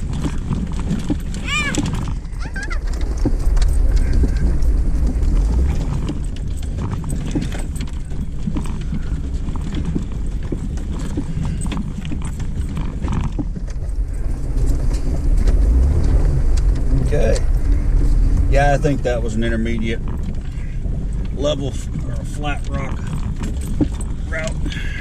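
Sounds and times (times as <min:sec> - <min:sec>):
branches scraping vehicle: 0:00.0 - 0:25.0
low engine rumble: 0:00.0 - 0:25.0
vehicle knocks and rattles: 0:00.0 - 0:25.0.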